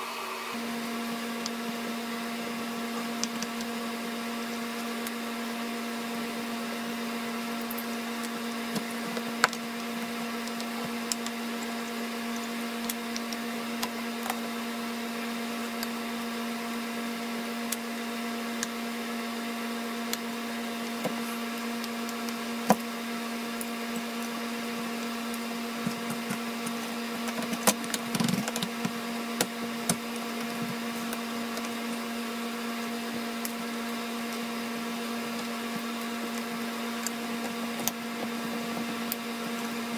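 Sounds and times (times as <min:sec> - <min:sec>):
steady low hum: 0:00.5 - 0:39.9.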